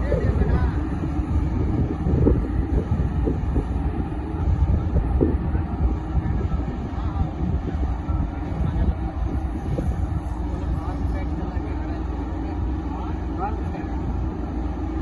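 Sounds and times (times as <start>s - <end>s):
road roller diesel engine rumbling: 0.0s - 15.0s.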